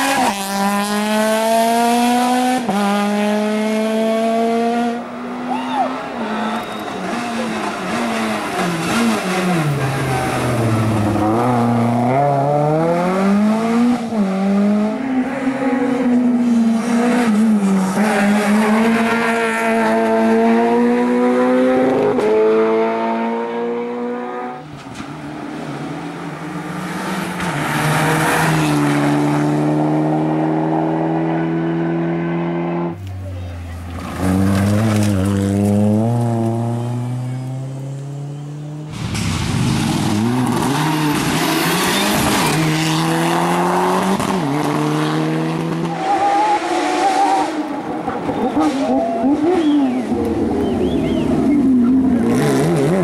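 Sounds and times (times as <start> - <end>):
rally car engine revving: 0.0 - 5.5, 6.1 - 33.0, 33.6 - 53.0.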